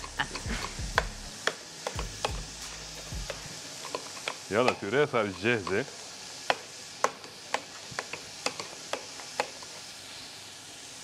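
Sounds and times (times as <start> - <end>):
potato masher knocking on pot: 0.0 - 9.7
food sizzling: 0.0 - 11.0.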